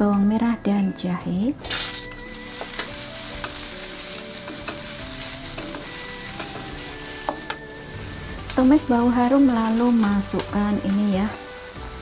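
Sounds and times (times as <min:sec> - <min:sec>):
garlic sizzling in wok: 0:01.6 - 0:12.0.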